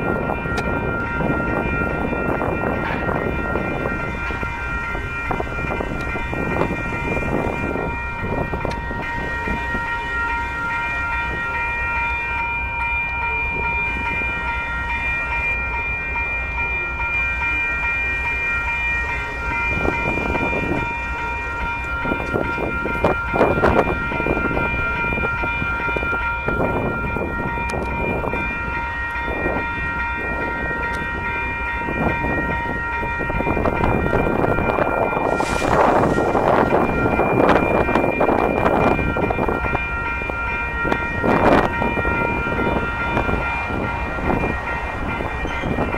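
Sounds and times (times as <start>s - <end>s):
crossing bell ringing: 0.0s - 45.9s
freight train rumbling: 0.0s - 45.9s
train wheels clanking: 0.0s - 45.9s.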